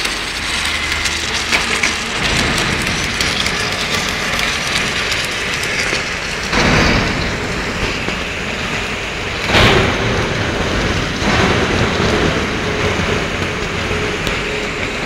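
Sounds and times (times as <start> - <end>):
welding machine rushing noise: 0.0 - 15.0.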